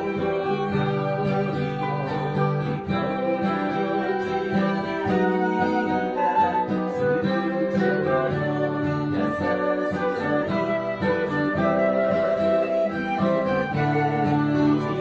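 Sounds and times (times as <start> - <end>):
plucked guitar accompaniment: 0.0 - 15.0.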